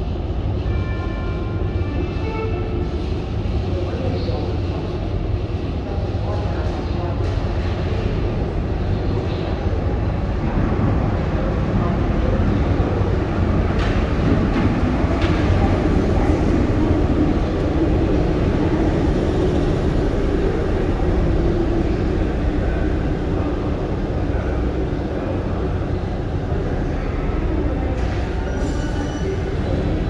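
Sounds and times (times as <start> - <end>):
train rumbling into station: 0.0 - 30.0.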